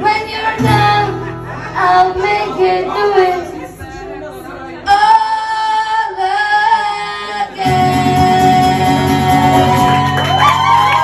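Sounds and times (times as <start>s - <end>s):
woman singing: 0.0s - 3.7s, 4.9s - 10.1s
acoustic guitar: 0.0s - 4.0s, 4.8s - 11.0s.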